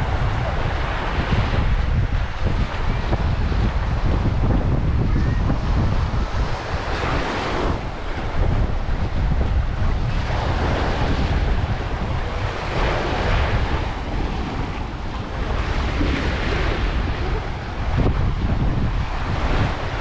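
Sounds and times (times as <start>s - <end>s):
surf washing onto beach: 0.0s - 20.0s
wind rumbling on microphone: 0.0s - 20.0s.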